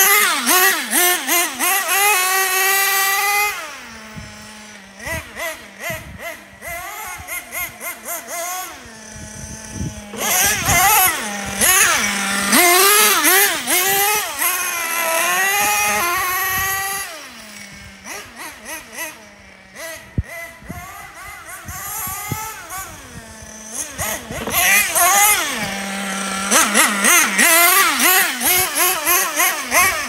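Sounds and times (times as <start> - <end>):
nitro engine revving: 0.0 - 30.0.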